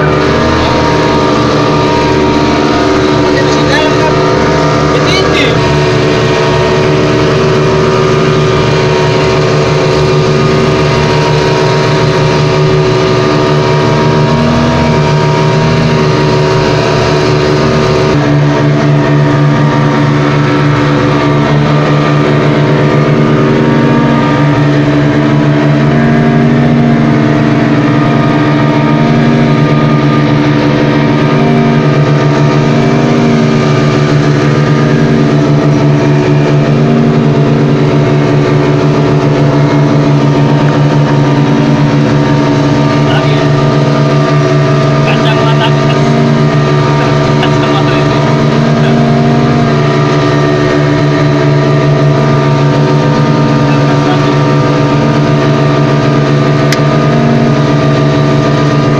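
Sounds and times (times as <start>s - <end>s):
outboard motor droning: 0.0s - 58.9s.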